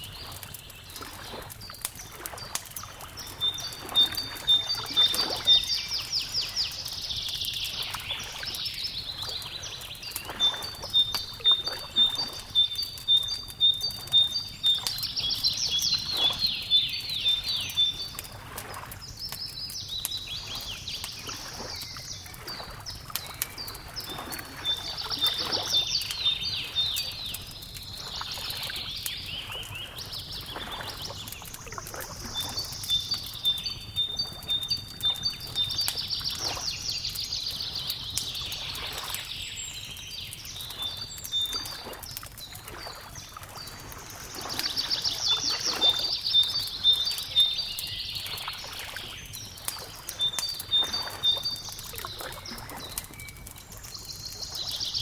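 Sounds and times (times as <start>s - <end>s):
songbird twittering: 0.0s - 18.3s, 19.0s - 55.0s
wood fire crackling: 0.0s - 55.0s.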